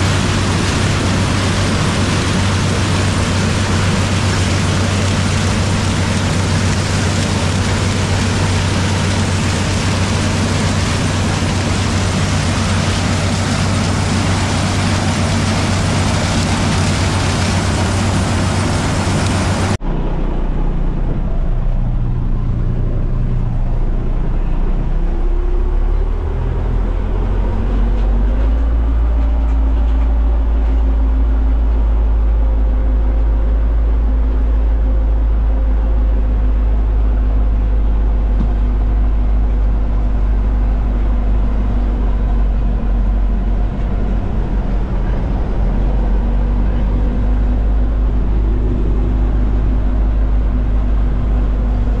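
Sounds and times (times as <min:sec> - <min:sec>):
combine harvester mechanical din: 0:00.0 - 0:52.0
diesel engine rumble: 0:00.0 - 0:52.0.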